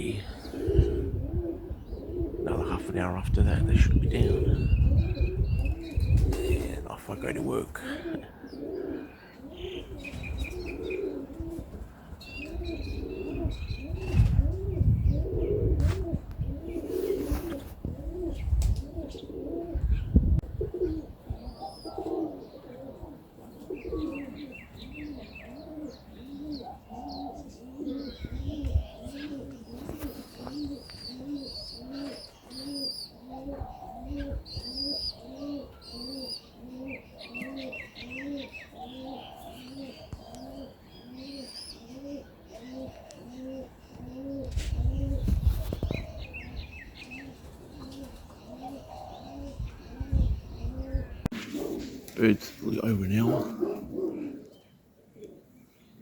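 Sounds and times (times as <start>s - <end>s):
small birds chirping: 0.0s - 51.3s, 52.0s - 56.0s
pigeons cooing: 0.0s - 56.0s.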